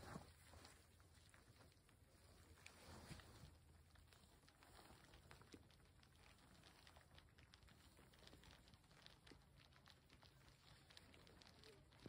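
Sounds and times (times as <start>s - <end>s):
faint ticks and clicks: 0.0s - 12.0s.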